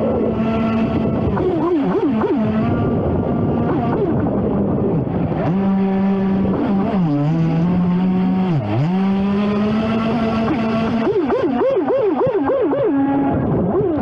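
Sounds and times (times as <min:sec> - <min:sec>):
boat motor running hard: 0:00.0 - 0:14.0.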